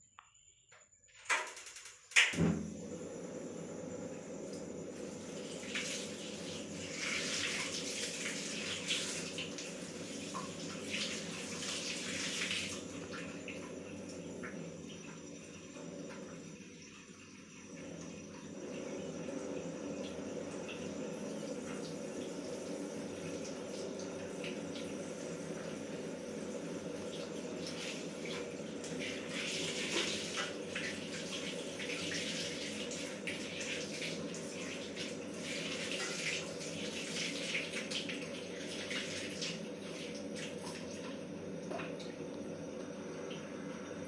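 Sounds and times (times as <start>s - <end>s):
water running and splashing: 5.0s - 42.2s.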